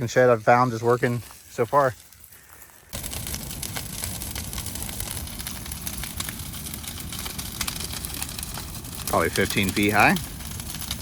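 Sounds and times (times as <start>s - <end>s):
brush pile burning with crackles: 0.0s - 11.0s
low fire rumble: 0.0s - 11.0s.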